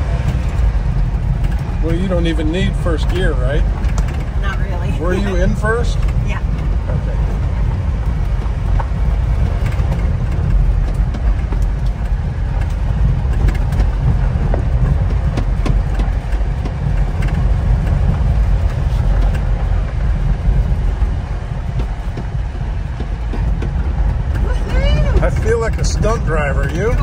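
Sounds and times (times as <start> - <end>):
clicks and rattles in cab: 0.0 - 27.0
engine and tyre rumble: 0.0 - 27.0.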